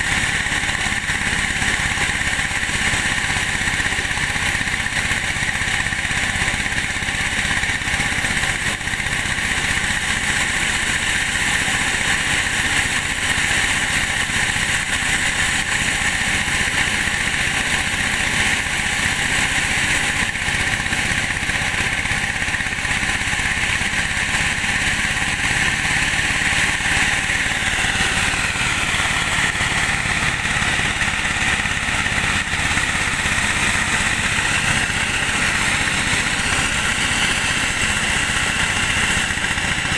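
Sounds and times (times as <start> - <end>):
engine-driven corn sheller running: 0.0 - 39.9.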